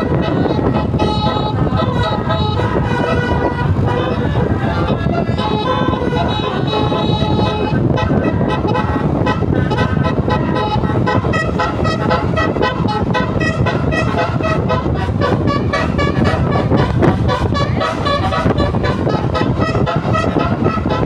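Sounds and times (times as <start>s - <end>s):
engine and road rumble: 0.0s - 21.0s
musical bus horn melody: 0.0s - 21.0s.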